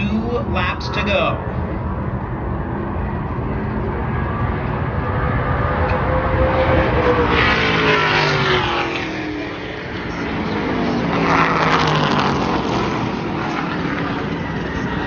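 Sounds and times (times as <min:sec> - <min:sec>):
race cars passing at full throttle: 0:00.0 - 0:15.0.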